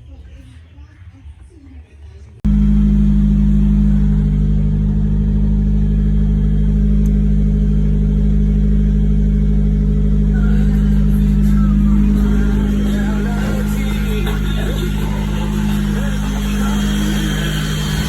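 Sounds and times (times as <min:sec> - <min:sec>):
car engine running: 0:02.4 - 0:18.0.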